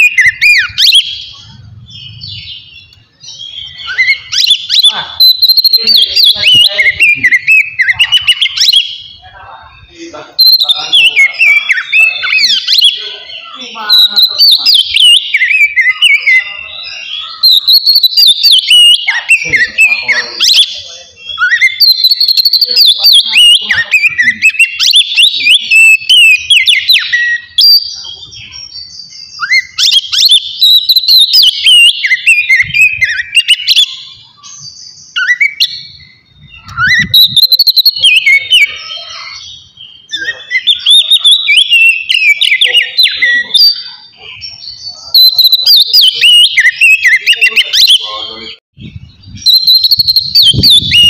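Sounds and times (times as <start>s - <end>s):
bird singing varied whistles: 0.0s - 9.2s, 10.4s - 48.2s, 48.9s - 51.0s.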